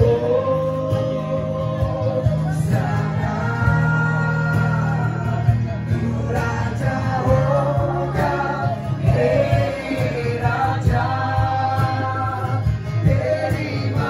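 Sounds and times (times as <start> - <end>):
gospel worship music: 0.0 - 14.0.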